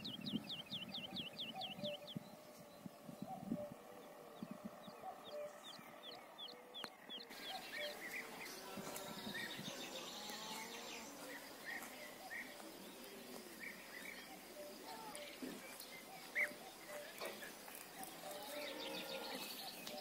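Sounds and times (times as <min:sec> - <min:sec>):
many birds chirping: 0:00.0 - 0:20.0
steady outdoor hiss: 0:00.0 - 0:20.0.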